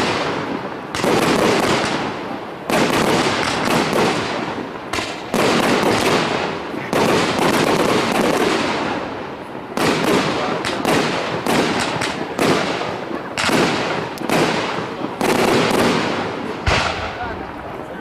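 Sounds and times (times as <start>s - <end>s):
fireworks bangs: 0.0s - 18.0s
fireworks crackle: 0.0s - 18.0s.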